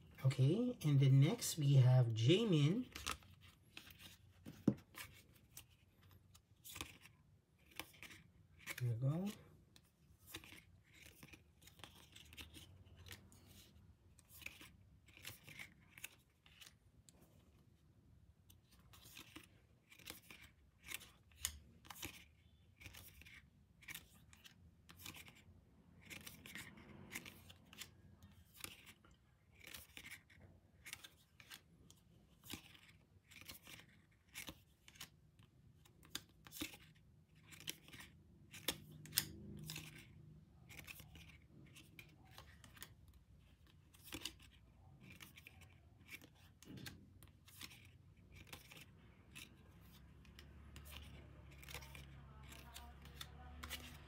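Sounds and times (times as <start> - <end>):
photo cards clicking and sliding: 0.5 - 54.0.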